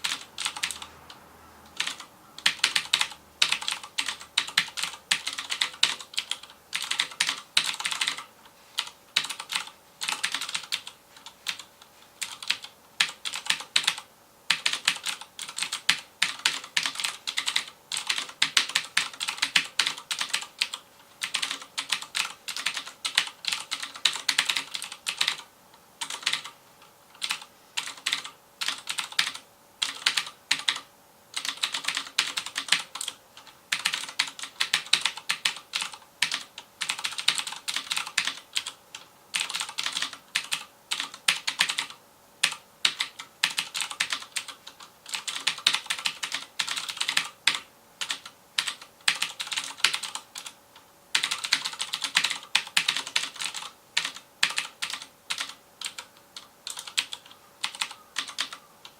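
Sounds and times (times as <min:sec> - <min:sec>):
mechanical keyboard typing: 0:00.0 - 0:58.9.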